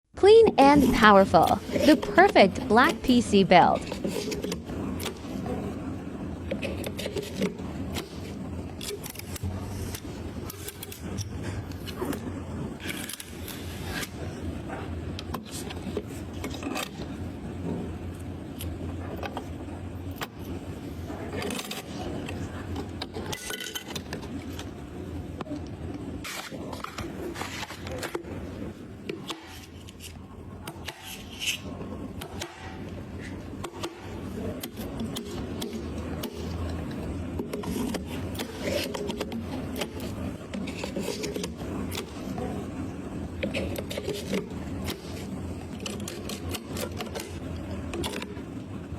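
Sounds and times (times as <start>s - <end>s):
low steady hum: 0.1s - 48.9s.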